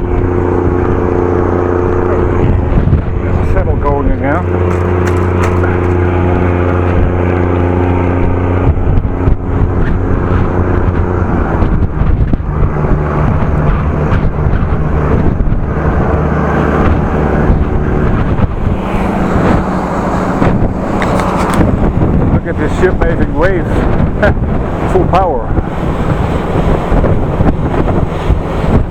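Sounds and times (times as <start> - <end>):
ship diesel engine droning: 0.0 - 28.9
wind noise on microphone: 0.0 - 28.9.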